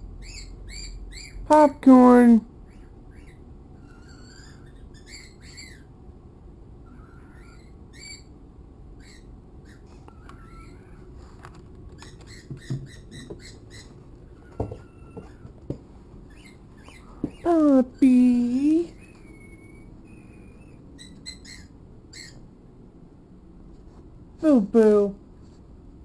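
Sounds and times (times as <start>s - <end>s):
birds chirping faintly: 0.0s - 22.9s.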